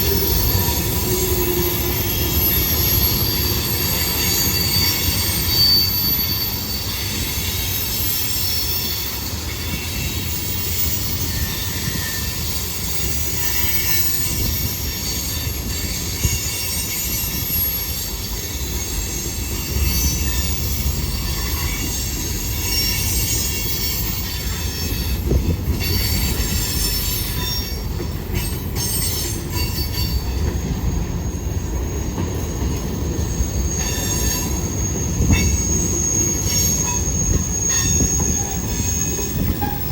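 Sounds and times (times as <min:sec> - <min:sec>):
train cars rumbling: 0:00.0 - 0:39.9
train wheels squealing on rail: 0:00.0 - 0:39.9.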